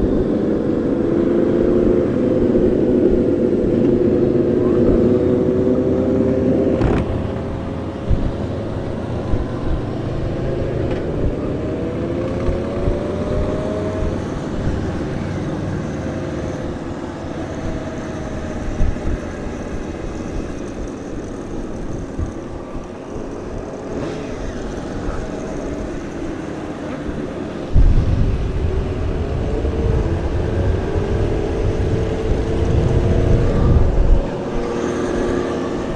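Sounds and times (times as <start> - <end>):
motorcycle engine running: 0.0 - 35.9
wind thumps on microphone: 1.9 - 15.6, 16.5 - 26.4, 27.0 - 35.9.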